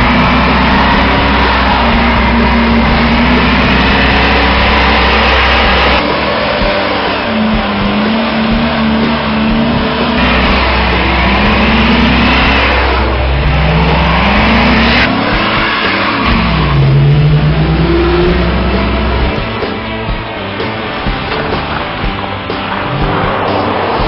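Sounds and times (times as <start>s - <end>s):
car engine revving hard: 0.0s - 24.0s
spinning tyres rushing: 0.0s - 24.0s.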